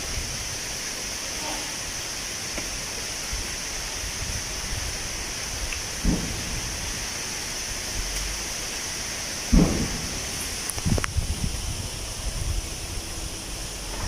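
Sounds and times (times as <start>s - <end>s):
wind blowing through tree leaves: 0.0s - 14.0s.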